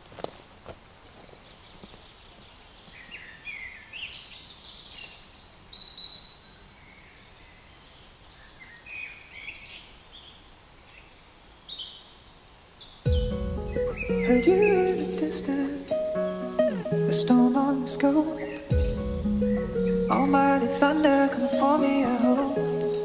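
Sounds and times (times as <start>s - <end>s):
songbirds chirping: 0.9s - 23.0s.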